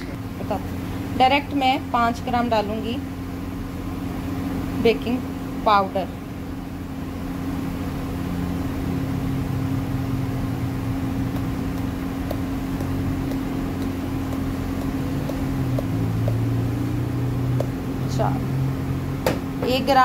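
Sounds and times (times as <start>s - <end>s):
machine hum with low rumble: 0.0s - 20.0s.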